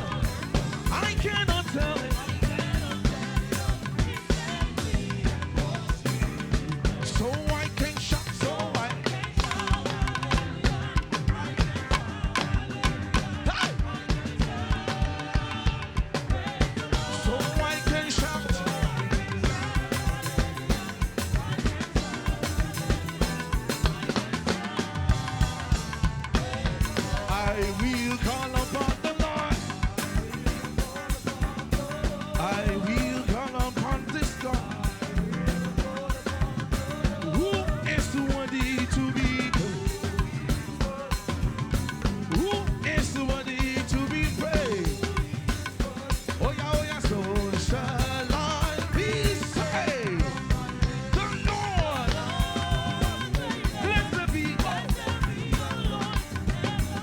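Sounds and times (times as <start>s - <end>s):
fast drum kit beat: 0.0s - 57.0s
live band upbeat instrumental: 0.0s - 57.0s.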